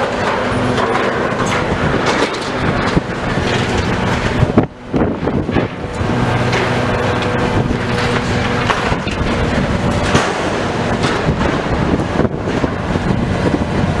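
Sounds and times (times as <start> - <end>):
diesel engine running: 0.0 - 14.0
knocks and crunches of debris: 0.0 - 14.0.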